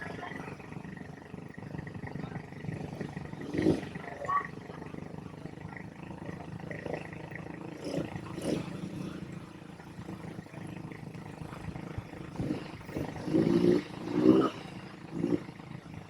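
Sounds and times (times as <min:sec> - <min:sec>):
atv engine idling: 0:00.0 - 0:16.0
engine throttle revs: 0:00.0 - 0:16.0.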